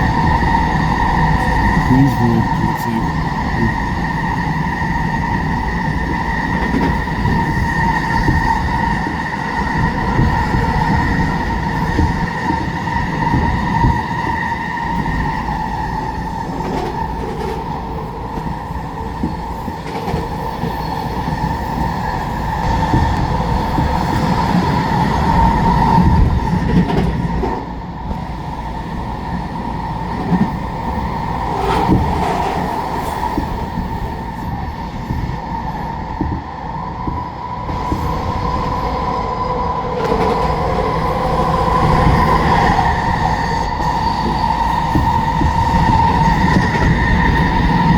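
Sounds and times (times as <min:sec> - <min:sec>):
train rumble with high whine: 0:00.0 - 0:47.9.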